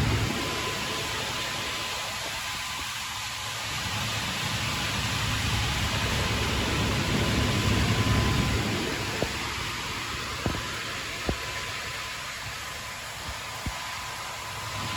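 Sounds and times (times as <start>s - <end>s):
truck engine rumbling: 0.0s - 2.7s, 3.8s - 14.9s.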